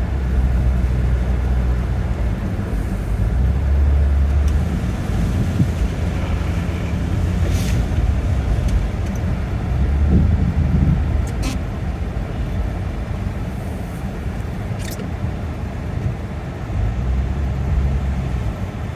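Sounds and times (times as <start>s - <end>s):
tyres and engine rumbling: 0.0s - 18.9s.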